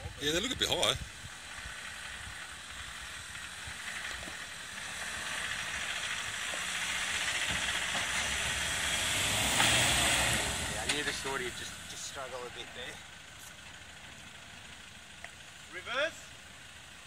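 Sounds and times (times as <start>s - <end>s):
engine labouring under load: 0.0s - 17.0s.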